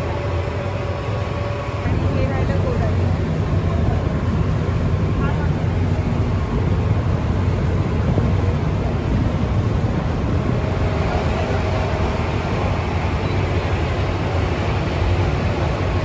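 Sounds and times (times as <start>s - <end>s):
ferry engine low drone: 0.0s - 16.0s
wake water: 0.0s - 16.0s
wind noise: 1.8s - 16.0s.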